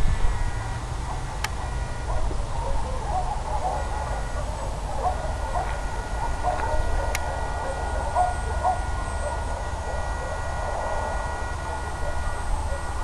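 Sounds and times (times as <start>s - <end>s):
faint high tones: 0.4s - 13.0s.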